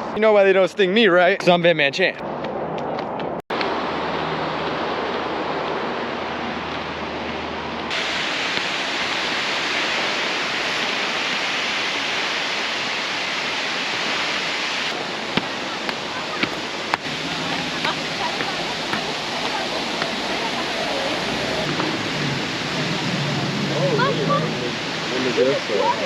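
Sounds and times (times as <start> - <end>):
rush of falling water: 3.5 - 26.0.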